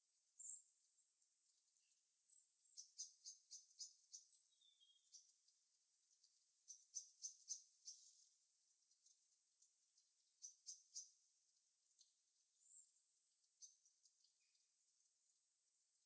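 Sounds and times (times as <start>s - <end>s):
small birds chirping faintly: 0.0s - 16.0s.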